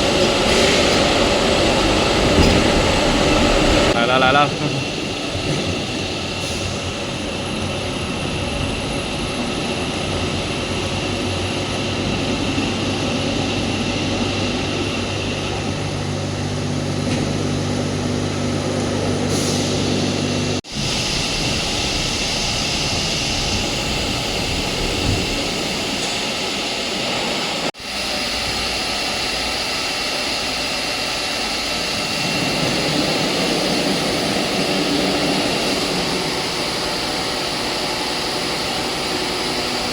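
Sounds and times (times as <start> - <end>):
machinery loud mechanical drone: 0.0 - 39.9.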